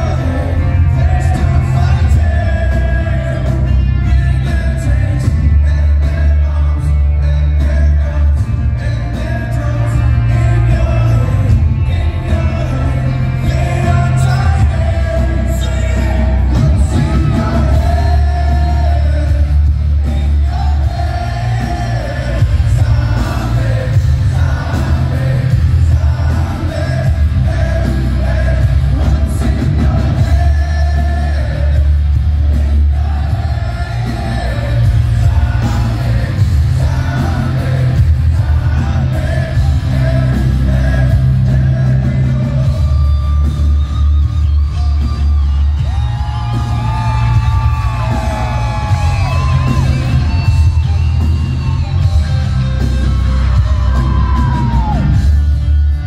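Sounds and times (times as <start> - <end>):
man singing: 0.0 - 50.8
distorted electric guitars: 0.0 - 56.0.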